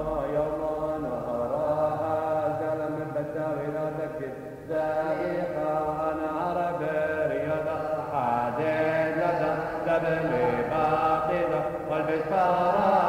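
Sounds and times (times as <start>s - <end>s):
voices chanting: 0.0s - 13.0s.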